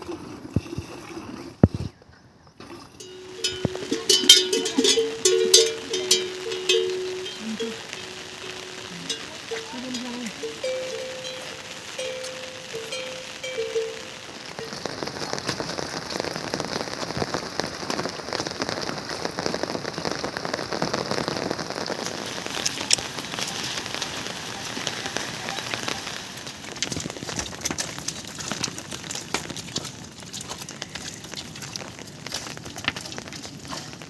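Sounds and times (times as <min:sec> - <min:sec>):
steady rain pattering: 0:02.9 - 0:34.0.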